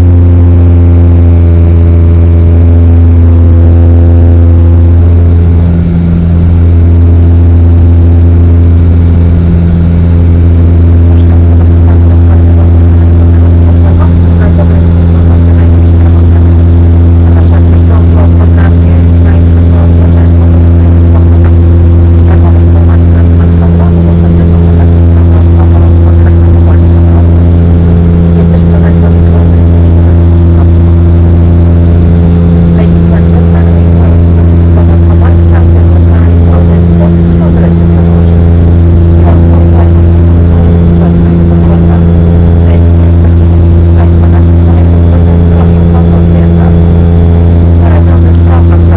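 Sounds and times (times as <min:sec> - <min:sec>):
airliner engines droning: 0:00.0 - 0:48.9.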